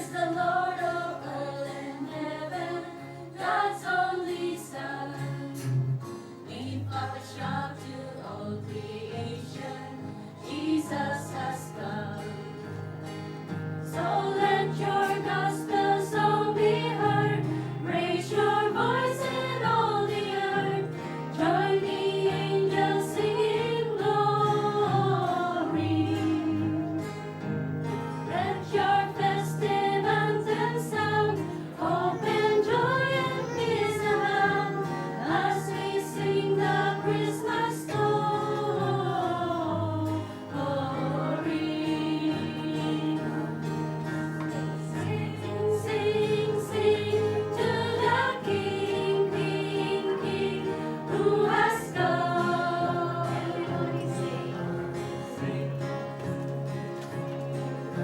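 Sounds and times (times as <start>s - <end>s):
group singing a worship song: 0.0s - 57.2s
acoustic guitar chords: 0.0s - 58.0s.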